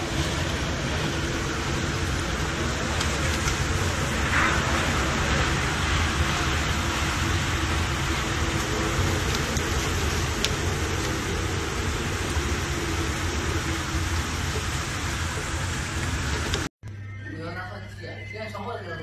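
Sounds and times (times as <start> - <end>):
deep low rumble: 0.0 - 16.7
wind and heavy rain rushing: 0.0 - 16.7.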